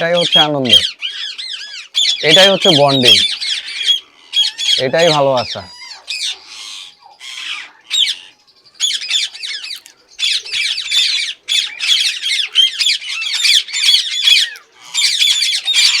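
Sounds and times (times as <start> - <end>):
parakeets squawking: 0.0 - 16.0.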